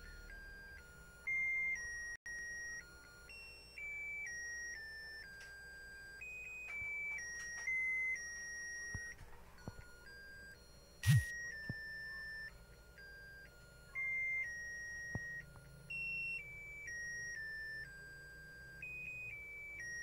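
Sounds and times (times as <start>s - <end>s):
electronic beeping melody: 0.0s - 20.0s.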